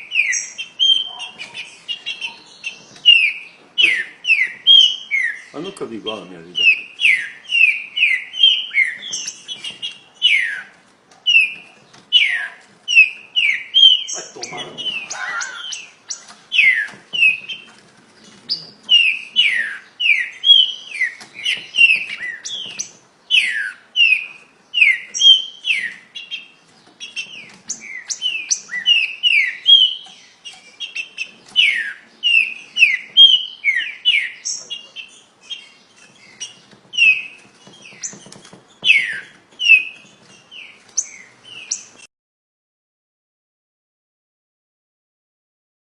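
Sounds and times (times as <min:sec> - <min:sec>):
bird singing whistled notes: 0:00.0 - 0:05.8, 0:06.5 - 0:10.7, 0:11.3 - 0:17.7, 0:18.5 - 0:42.0.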